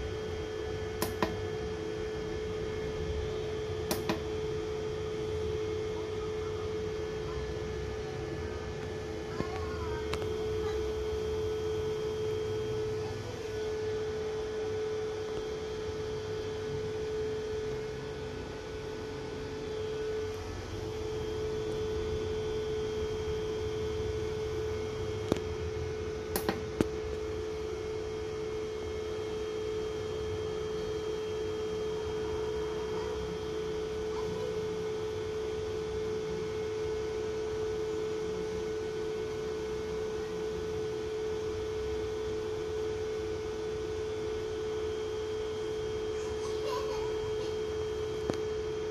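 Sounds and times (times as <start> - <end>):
faint high whines: 0.0 - 48.9
steady electrical hum: 0.0 - 48.9.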